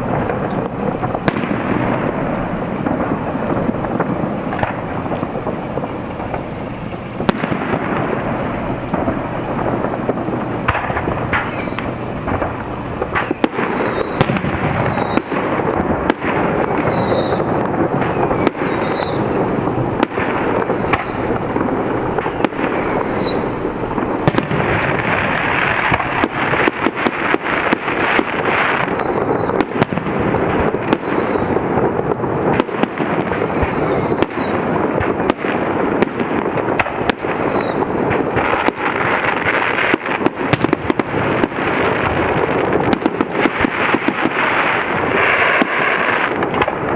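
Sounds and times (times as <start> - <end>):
firework whistles: 0.0 - 46.9
fireworks bursts and bangs: 0.0 - 46.9.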